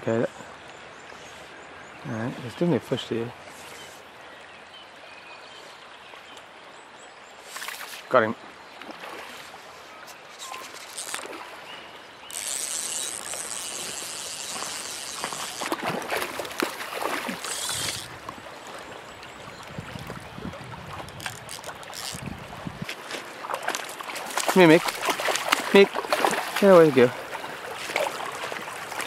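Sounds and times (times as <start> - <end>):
stream water running and splashing: 0.0 - 29.0.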